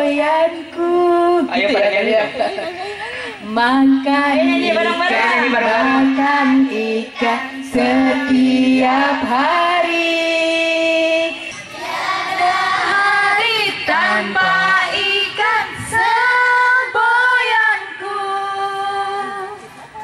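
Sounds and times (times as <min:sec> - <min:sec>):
women singing into microphones: 0:00.0 - 0:20.0
girls singing along: 0:03.4 - 0:19.8.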